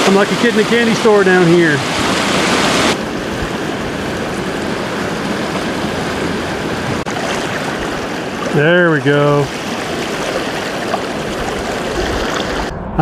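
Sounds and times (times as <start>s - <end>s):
creek rushing over rocks: 0.0s - 12.7s.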